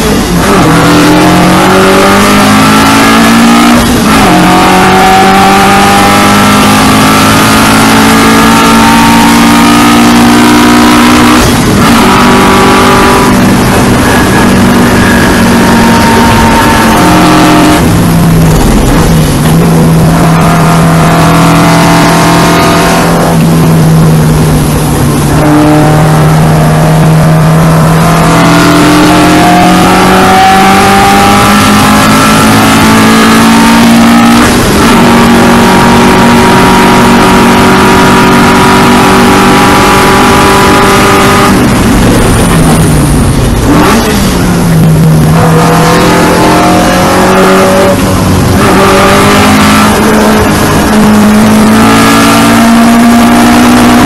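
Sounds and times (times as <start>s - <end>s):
racing car engine driven hard: 0.0s - 54.0s.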